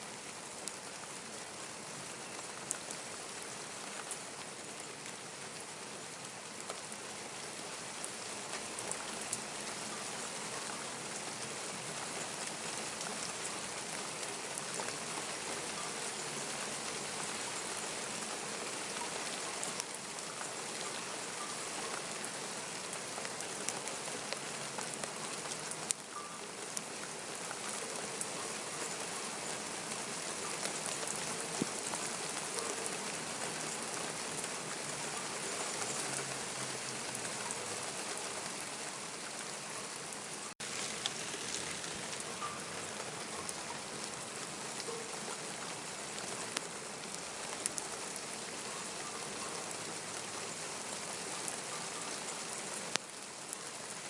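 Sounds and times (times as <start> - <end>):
raindrops dripping on surfaces: 0.0 - 54.0
steady rain falling: 0.0 - 54.0.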